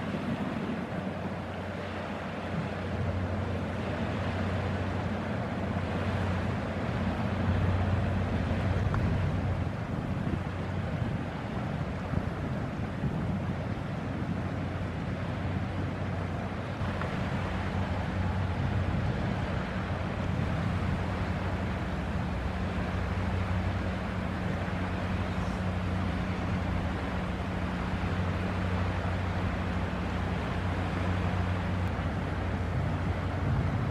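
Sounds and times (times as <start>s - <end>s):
ship diesel engine drone: 0.0s - 33.9s
wind on microphone: 0.0s - 33.9s.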